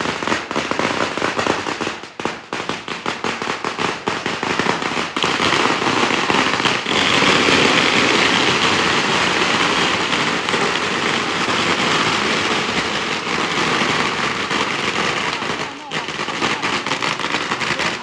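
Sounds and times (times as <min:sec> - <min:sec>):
firecrackers crackling: 0:00.0 - 0:18.0.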